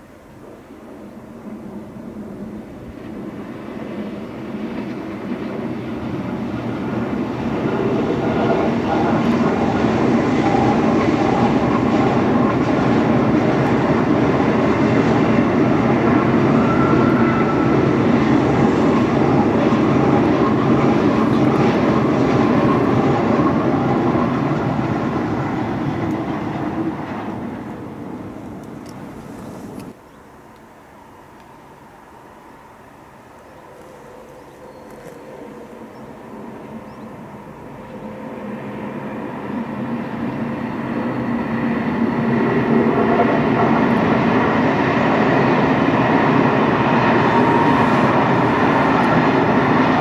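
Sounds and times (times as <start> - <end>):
train wheels on rails: 0.0 - 30.0, 31.1 - 50.0.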